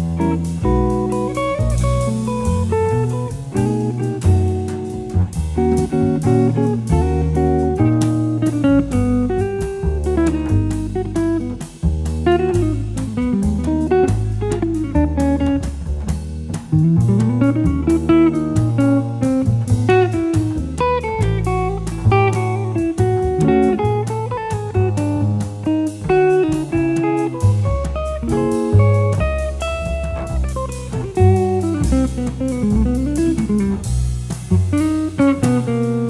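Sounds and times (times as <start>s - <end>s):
guitar-led music with beat: 0.0s - 36.0s.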